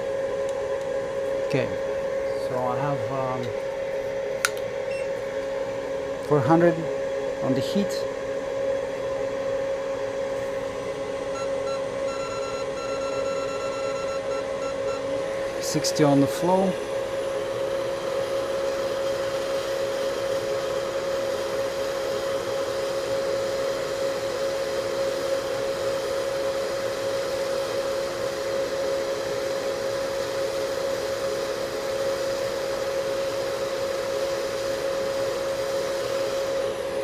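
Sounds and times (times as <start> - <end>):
hot air station blowing: 0.0 - 37.0.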